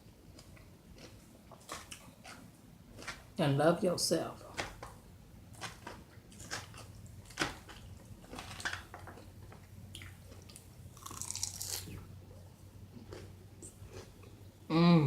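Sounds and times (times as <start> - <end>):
chewing and crunching: 0.2 - 3.4, 4.8 - 14.5.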